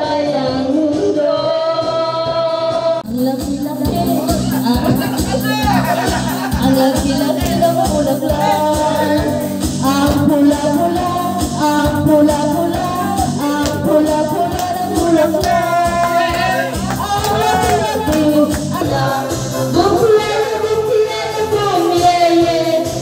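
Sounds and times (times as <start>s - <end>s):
song with singing over drum beat: 0.0s - 23.0s.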